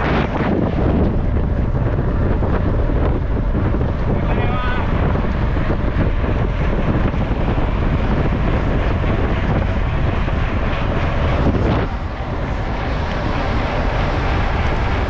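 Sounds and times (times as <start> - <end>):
mountain bike rumbling and rattling: 0.0 - 15.0
wind buffeting microphone: 0.0 - 15.0.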